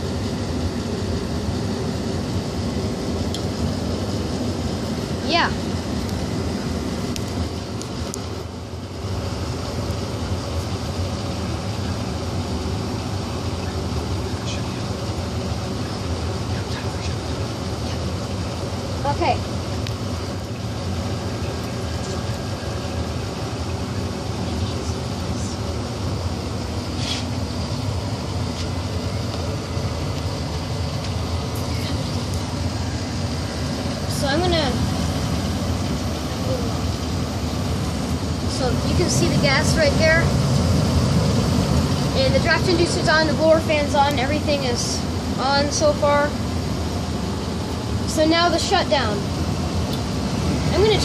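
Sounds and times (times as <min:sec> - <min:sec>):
gas furnace humming: 0:00.0 - 0:51.0.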